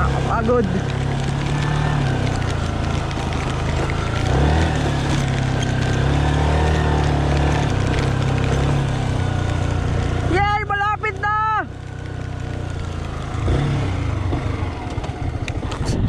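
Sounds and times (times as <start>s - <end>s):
motorcycle engine under load: 0.0s - 16.0s.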